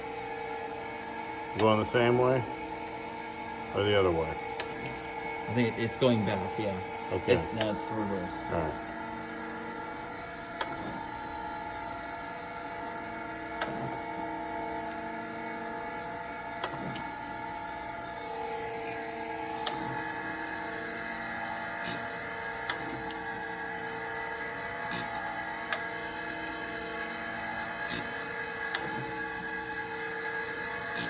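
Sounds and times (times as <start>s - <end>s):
grinder motors humming: 0.0s - 31.0s.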